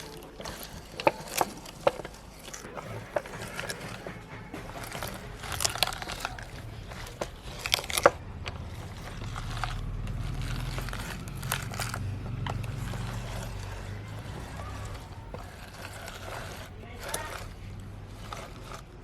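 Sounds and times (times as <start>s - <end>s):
carrots crunching in grinder: 0.0s - 19.0s
low motor hum: 0.0s - 19.0s.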